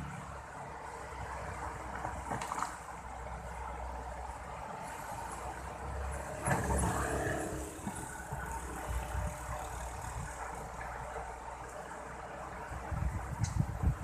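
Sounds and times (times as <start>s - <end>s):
excavator engine running: 0.0s - 13.9s.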